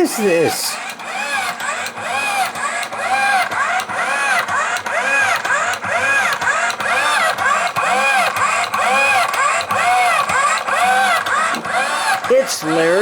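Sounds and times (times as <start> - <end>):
washing machine motor whining: 0.0 - 13.0
washing machine clicks: 0.8 - 12.9.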